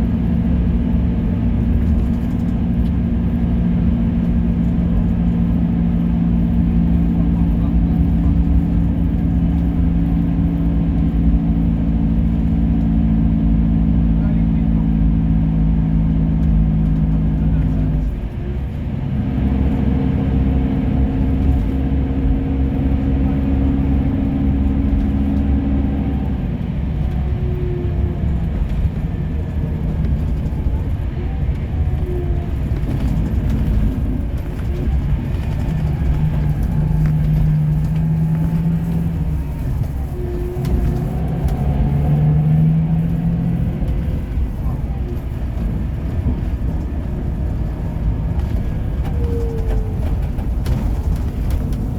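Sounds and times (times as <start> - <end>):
bus diesel engine droning: 0.0 - 51.9.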